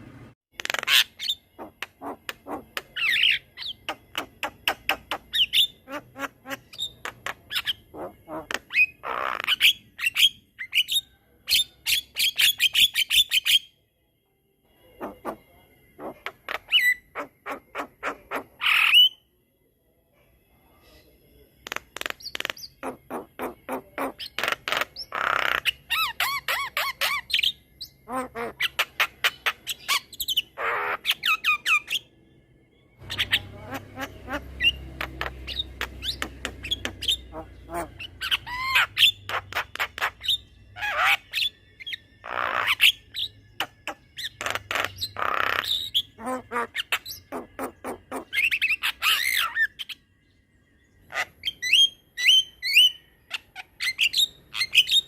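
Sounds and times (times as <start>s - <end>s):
bird singing varied song: 0.5s - 13.8s, 20.8s - 55.0s.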